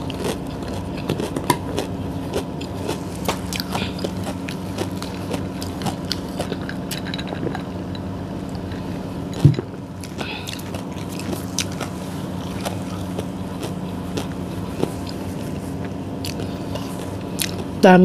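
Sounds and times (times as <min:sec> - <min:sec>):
chewing and crunching: 0:00.0 - 0:17.8
steady low hum: 0:00.0 - 0:18.0.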